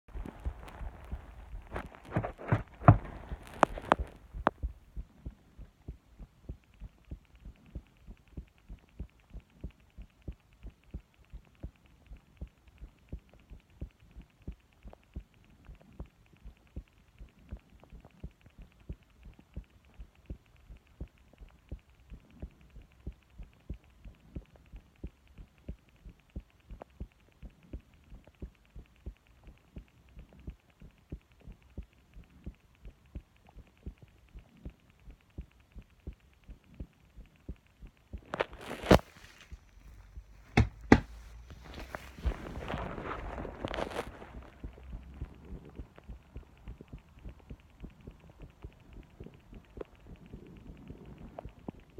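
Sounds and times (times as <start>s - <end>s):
faint hum: 0.1s - 51.9s
heartbeat: 0.1s - 51.9s.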